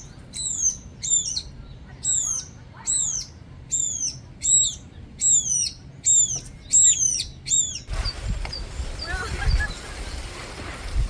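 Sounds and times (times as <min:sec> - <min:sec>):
small bird calling: 0:00.0 - 0:10.3.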